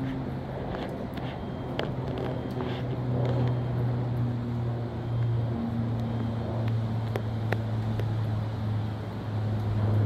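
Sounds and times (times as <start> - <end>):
gusty wind: 0.0 - 10.0
low mechanical hum: 0.0 - 10.0
rain: 0.0 - 10.0.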